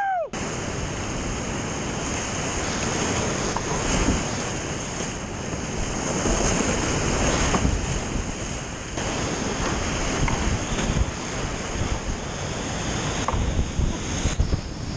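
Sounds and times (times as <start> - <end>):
whitewater rushing: 0.0 - 14.9
wind buffeting microphone: 0.0 - 14.9.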